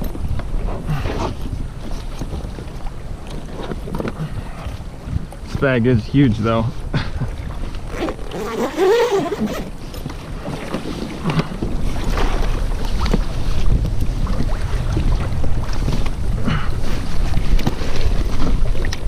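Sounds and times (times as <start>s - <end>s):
wind buffeting microphone: 0.0s - 8.3s, 8.9s - 19.0s.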